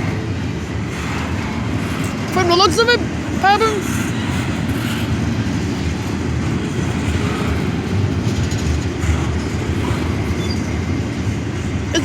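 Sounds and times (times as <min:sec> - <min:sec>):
train cars rumbling on rails: 0:00.0 - 0:12.0.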